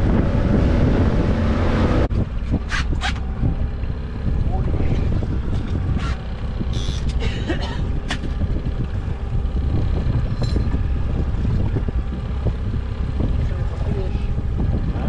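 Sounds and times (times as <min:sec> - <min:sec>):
boat motor rumbling on water: 0:00.0 - 0:15.0
wind buffeting microphone: 0:00.0 - 0:15.0.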